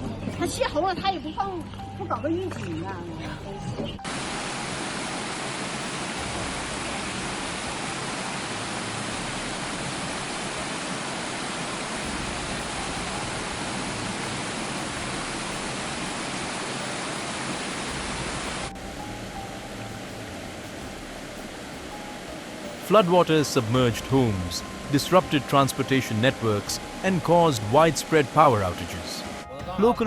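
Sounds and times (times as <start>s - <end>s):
rushing floodwater: 4.0s - 30.0s.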